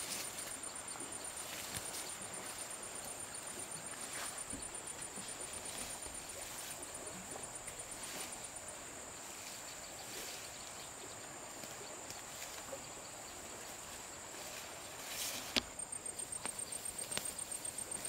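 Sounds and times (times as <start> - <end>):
faint ticks and rustles: 0.0 - 18.0.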